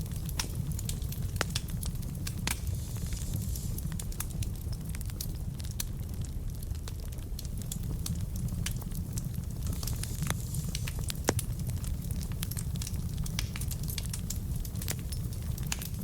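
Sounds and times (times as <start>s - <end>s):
burning logs crackling and popping: 0.0s - 16.0s
low rumble of flames: 0.0s - 16.0s.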